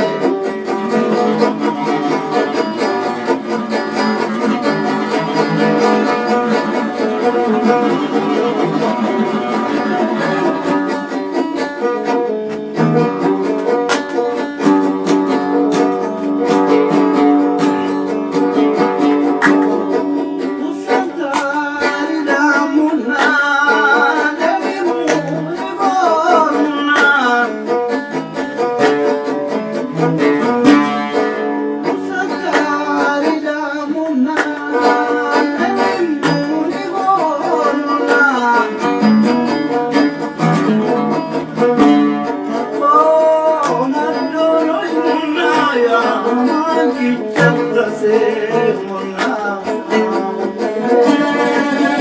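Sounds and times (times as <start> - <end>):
plucked string melody: 0.0 - 52.0.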